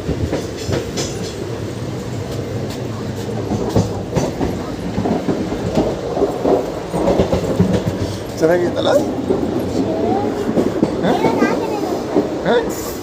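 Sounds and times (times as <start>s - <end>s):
train rumbling inside coach: 0.0s - 13.0s
train wheels clicking and knocking: 0.0s - 13.0s.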